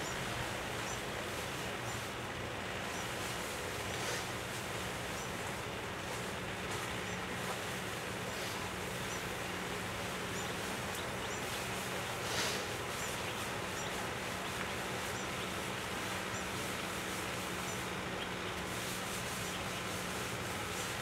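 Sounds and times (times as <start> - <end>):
rustle: 0.0 - 21.0.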